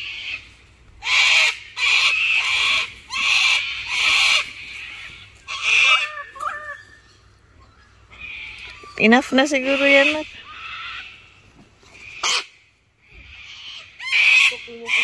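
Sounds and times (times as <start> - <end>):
cockatoos screeching: 0.0 - 15.0.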